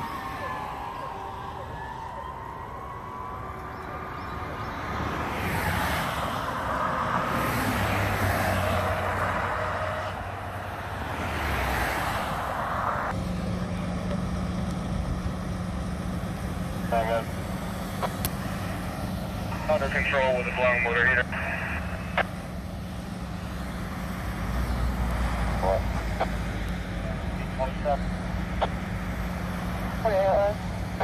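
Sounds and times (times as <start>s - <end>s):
siren: 0.0s - 13.2s, 16.3s - 31.0s
cars passing: 0.0s - 31.0s
low engine hum: 0.0s - 31.0s.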